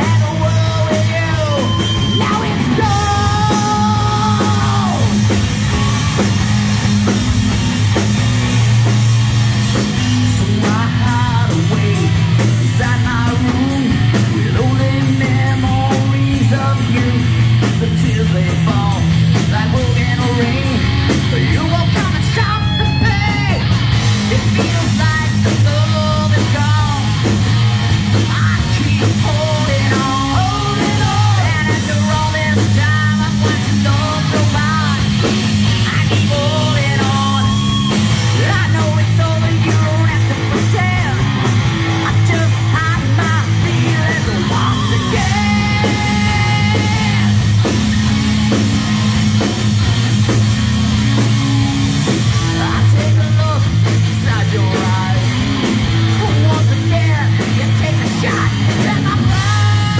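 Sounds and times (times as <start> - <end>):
man singing: 0.0 - 6.0, 10.1 - 27.4, 28.1 - 47.4, 52.3 - 59.9
drums: 0.0 - 59.9
electric guitar: 0.0 - 59.9.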